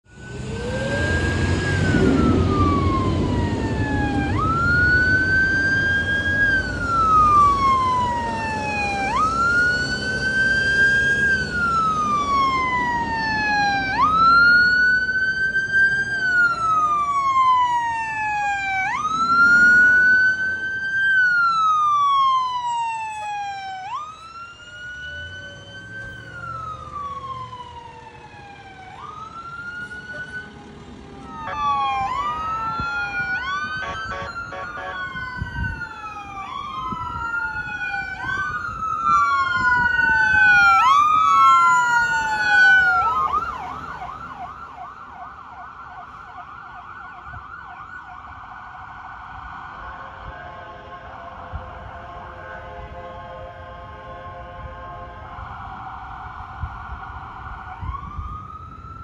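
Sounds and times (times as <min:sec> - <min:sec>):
emergency siren wailing: 0:00.0 - 0:59.0
vehicle engine rumble: 0:00.0 - 0:59.0.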